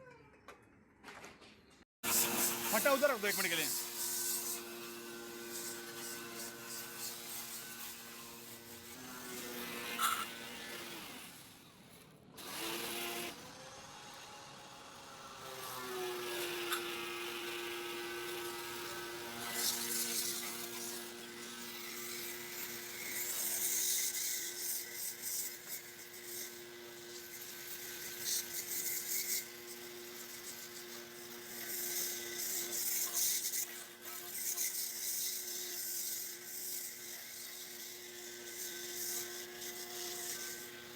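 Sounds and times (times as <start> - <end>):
electric motor humming: 2.0 - 40.9.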